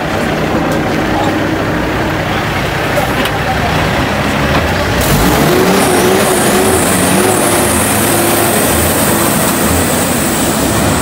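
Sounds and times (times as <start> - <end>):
high whine: 0.0 - 11.0
truck engine pulling away: 0.0 - 11.0.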